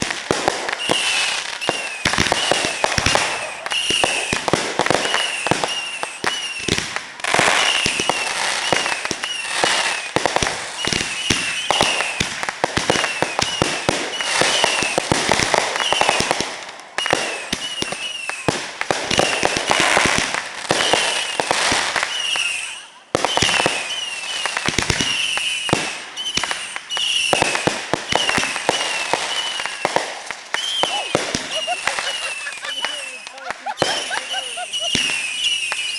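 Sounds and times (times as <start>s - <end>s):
firecrackers popping: 0.0s - 35.9s
whistling tones: 0.7s - 6.7s, 7.5s - 12.2s, 12.9s - 15.0s, 15.7s - 16.3s, 17.0s - 18.5s, 20.9s - 35.9s.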